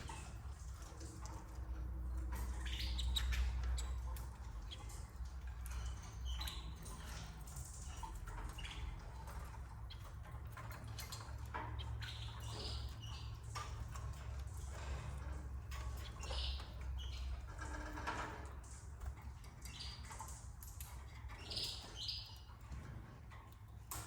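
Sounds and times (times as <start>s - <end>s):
canaries chirping: 0.0s - 24.0s.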